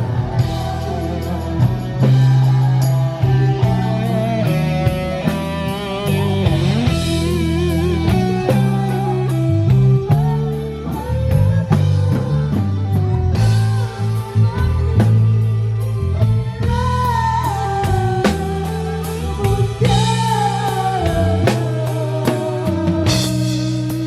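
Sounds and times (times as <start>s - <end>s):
electric guitar lead: 0.0s - 24.0s
live rock band playing: 0.0s - 24.0s.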